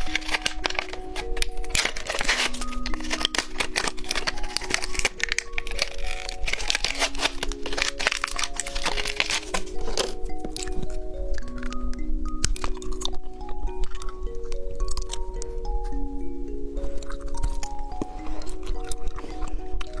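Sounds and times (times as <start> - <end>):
light background music: 0.0 - 20.0
plastic wrappers crinkling: 0.0 - 20.0.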